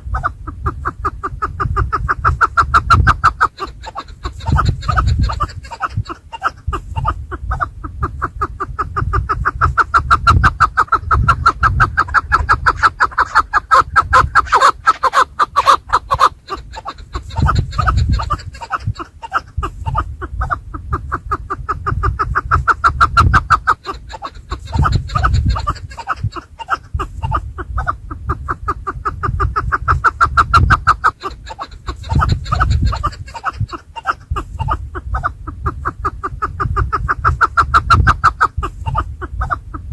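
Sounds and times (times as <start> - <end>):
partridges clucking calls: 0.6 - 7.3, 8.2 - 20.2, 21.0 - 27.6, 28.5 - 34.9, 35.8 - 39.2.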